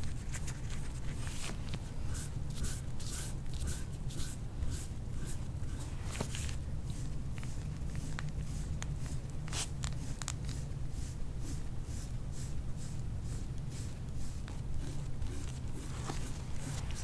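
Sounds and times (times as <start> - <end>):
strokes scraping over skin: 0.0 - 17.0.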